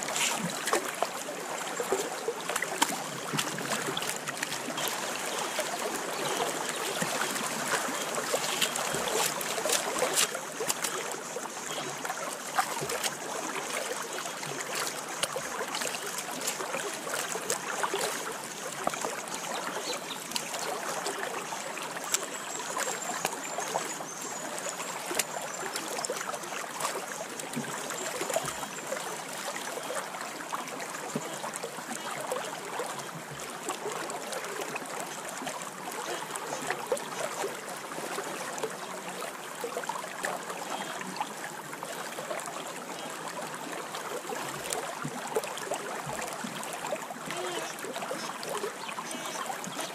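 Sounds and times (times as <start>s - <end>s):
creek water running over stones: 0.0s - 49.9s.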